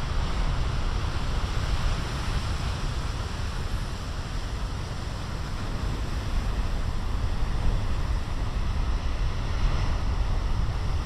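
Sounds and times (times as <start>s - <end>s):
ocean waves breaking: 0.0s - 11.0s
wind rumbling on microphone: 0.0s - 11.0s.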